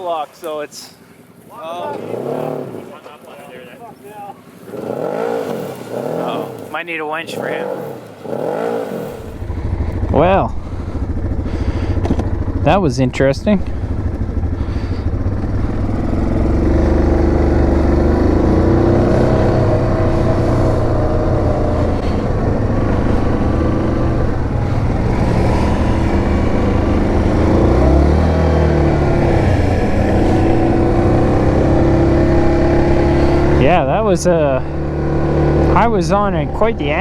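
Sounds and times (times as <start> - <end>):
atv engine working under load: 0.5 - 37.0.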